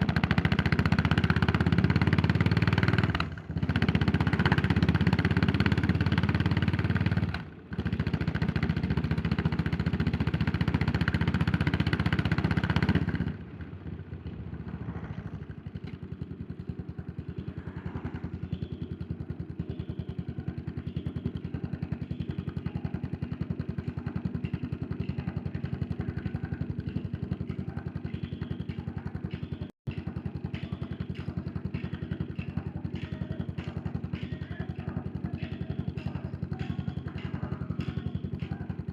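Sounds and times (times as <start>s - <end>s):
motorcycle engine thumping: 0.0s - 38.9s.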